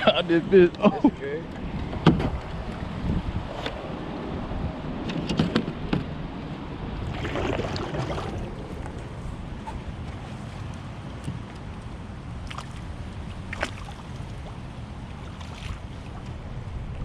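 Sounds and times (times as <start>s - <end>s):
wind buffeting microphone: 1.4s - 17.0s.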